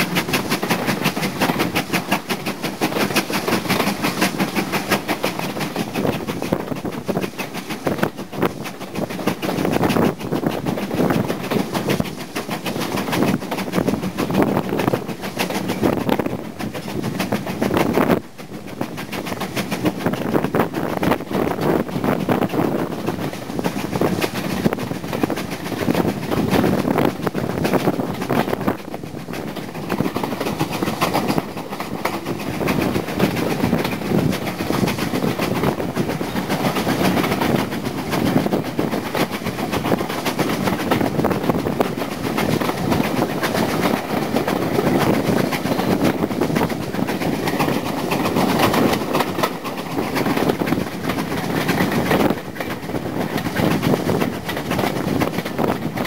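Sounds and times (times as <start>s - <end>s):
train wheels clattering on track: 0.0s - 56.0s.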